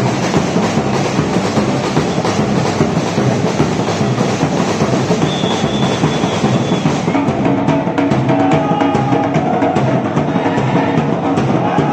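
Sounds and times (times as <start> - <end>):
samba percussion ensemble: 0.0 - 11.9.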